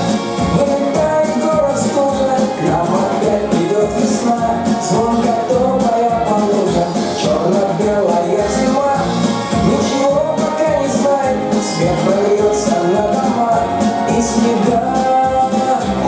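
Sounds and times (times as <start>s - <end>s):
upbeat pop music: 0.0s - 16.0s.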